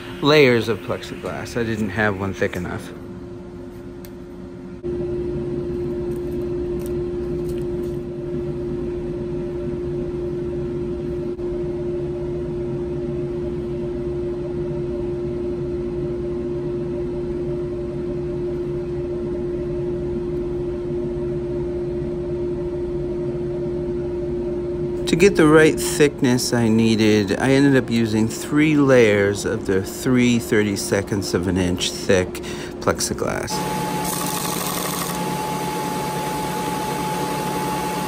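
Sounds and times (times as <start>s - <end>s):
machine hum with pitched tone: 0.0s - 38.0s.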